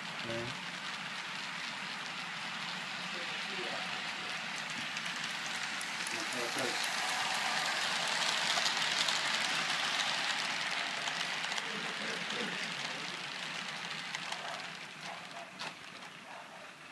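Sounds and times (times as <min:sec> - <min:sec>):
model train rolling on track: 0:00.0 - 0:16.9.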